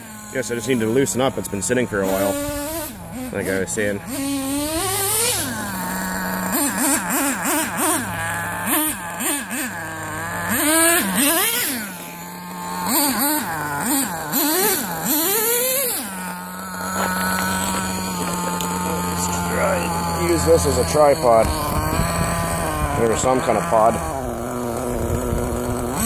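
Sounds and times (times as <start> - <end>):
nitro engine revving and idling: 0.0 - 26.0.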